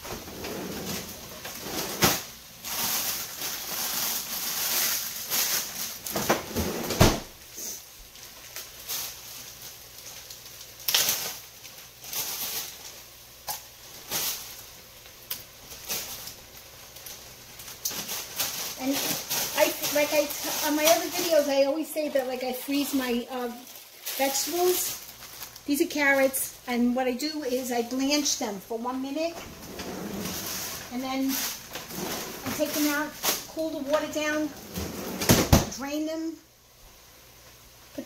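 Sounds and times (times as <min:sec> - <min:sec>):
plastic bag rustling: 0:00.0 - 0:35.9.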